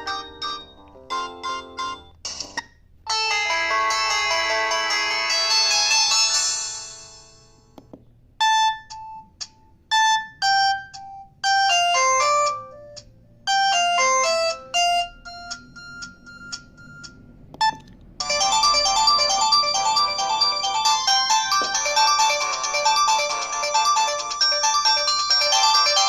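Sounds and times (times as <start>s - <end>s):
electronic phone ringtone melody: 0.0s - 2.1s, 3.1s - 7.4s, 9.9s - 26.0s.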